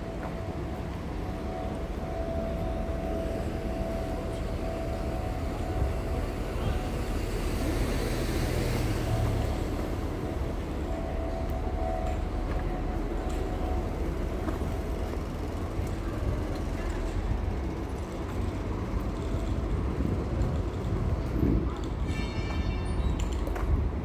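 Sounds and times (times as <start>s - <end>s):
low traffic rumble: 0.0s - 24.0s.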